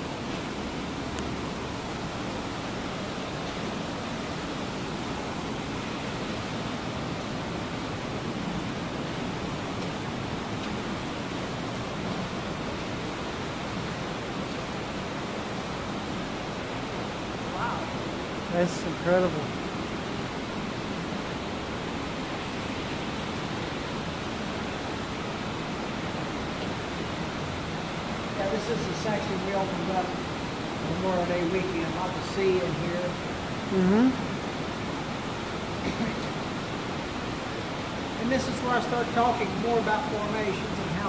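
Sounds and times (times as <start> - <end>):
underground stream rushing: 0.0 - 41.0.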